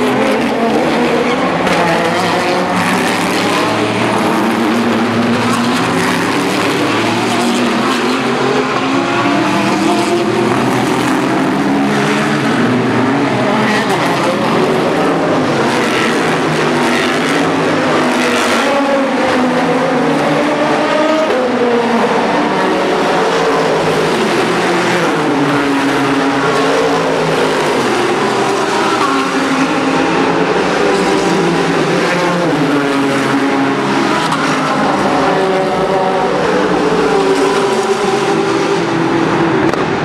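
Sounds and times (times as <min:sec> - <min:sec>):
racing car engines passing: 0:00.0 - 0:40.0.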